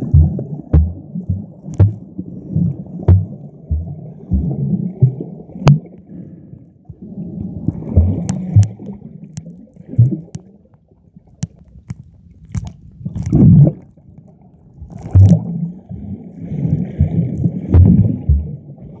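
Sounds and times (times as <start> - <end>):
muffled underwater sloshing: 0.0 - 19.0.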